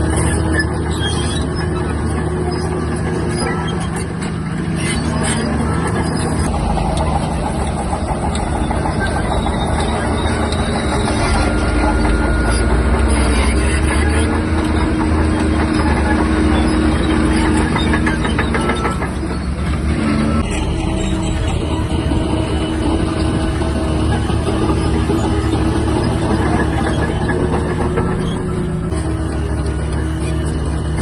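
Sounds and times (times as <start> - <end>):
bulldozer diesel engine running: 0.0 - 31.0
steel tracks clanking: 0.0 - 31.0.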